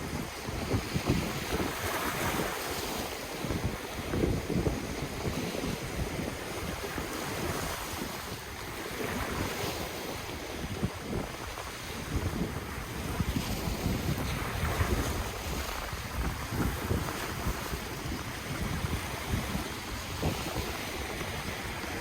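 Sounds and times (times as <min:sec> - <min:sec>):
ocean surf washing: 0:00.0 - 0:22.0
wind buffeting microphone: 0:00.0 - 0:22.0.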